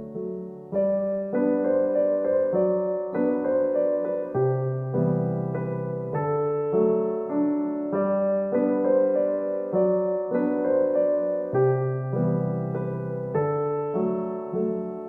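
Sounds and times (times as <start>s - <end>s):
gentle solo piano piece: 0.0s - 15.0s.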